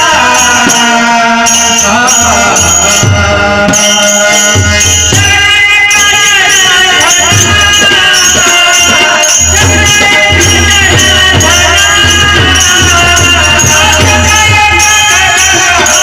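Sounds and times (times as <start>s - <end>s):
devotional song melody: 0.0s - 16.0s
jingling hand cymbals: 0.0s - 16.0s.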